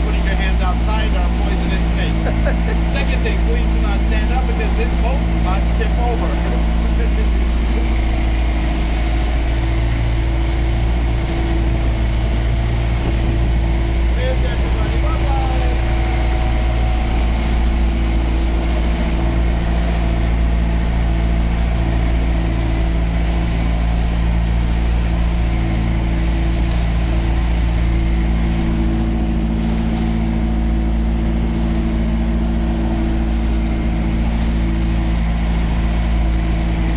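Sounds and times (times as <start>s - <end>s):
boat engine droning: 0.0s - 36.9s
steady tones: 0.0s - 36.9s
water rushing: 0.0s - 36.9s
wind: 0.0s - 36.9s.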